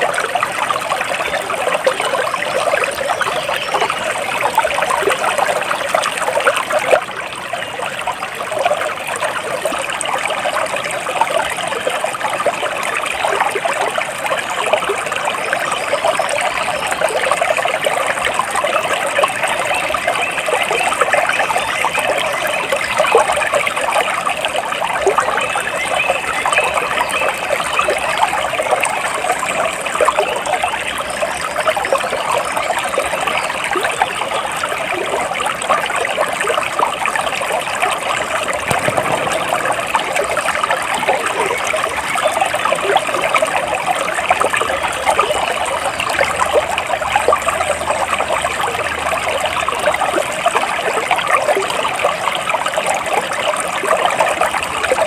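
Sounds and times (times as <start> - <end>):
stream trickling and babbling: 0.0 - 55.0.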